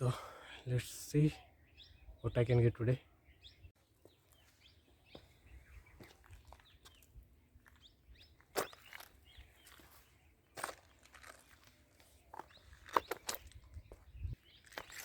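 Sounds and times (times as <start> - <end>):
wild birds chirping: 0.0 - 15.0.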